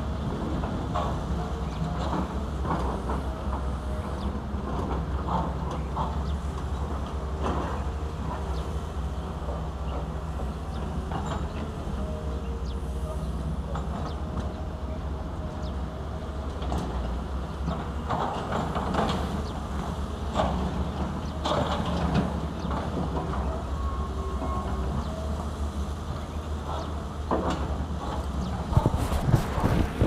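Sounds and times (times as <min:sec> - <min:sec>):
excavator diesel engine drone: 0:00.0 - 0:30.0.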